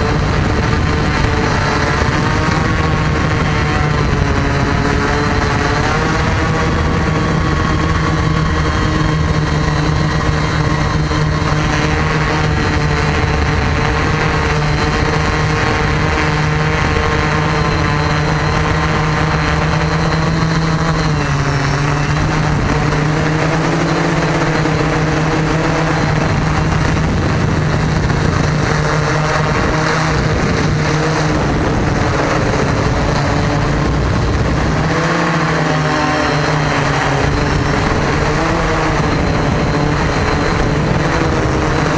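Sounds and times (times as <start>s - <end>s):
drone motors humming: 0.0s - 41.9s.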